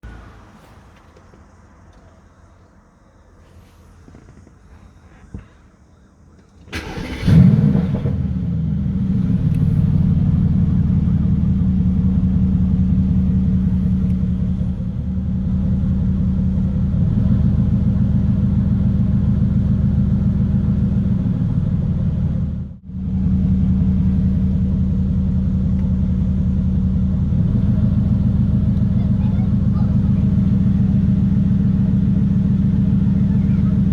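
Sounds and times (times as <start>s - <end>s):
car engine idling: 0.0s - 33.9s
car engine starting: 0.0s - 33.9s.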